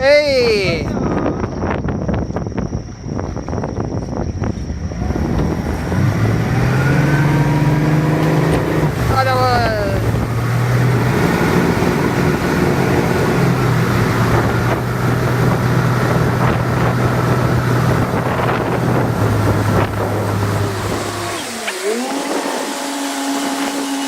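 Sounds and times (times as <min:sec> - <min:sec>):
wind buffeting microphone: 0:00.0 - 0:24.0
motorboat engine running: 0:01.1 - 0:24.0.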